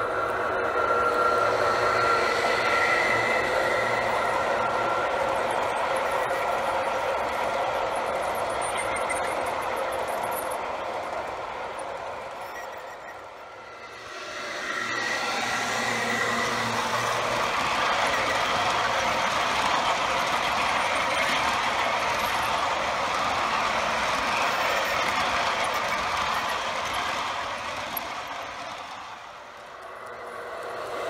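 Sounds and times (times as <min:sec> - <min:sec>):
model train rolling over bridge: 0:00.0 - 0:31.0.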